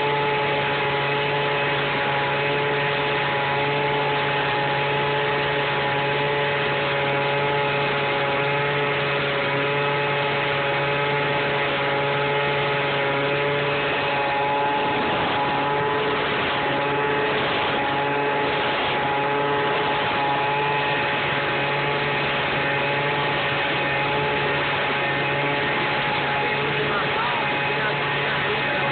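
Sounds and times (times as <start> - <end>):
blower motor humming: 0.0 - 28.9.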